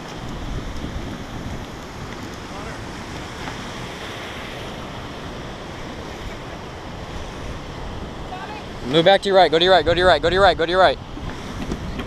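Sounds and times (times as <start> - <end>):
wind noise on microphone: 0.0 - 9.0, 9.6 - 12.0
ocean surf washing in: 0.0 - 12.0.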